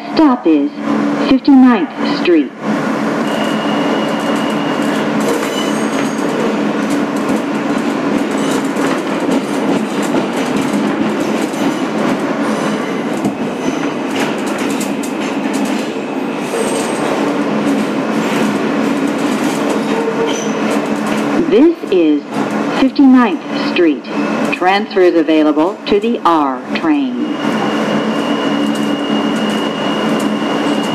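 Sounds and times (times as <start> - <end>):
train wheels rumbling on rail: 0.7 - 30.9.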